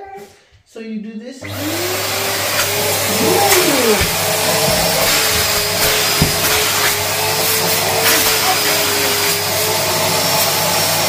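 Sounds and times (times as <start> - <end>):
vacuum cleaner running: 1.4 - 11.0.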